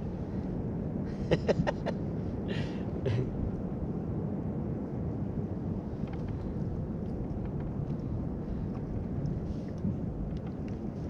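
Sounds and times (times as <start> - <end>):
sea rumble: 0.0 - 11.0
wind on microphone: 0.0 - 11.0.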